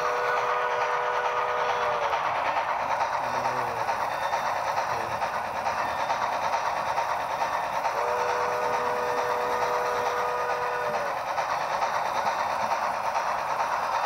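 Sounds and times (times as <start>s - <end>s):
model train wheels rolling on rail: 0.0s - 14.0s.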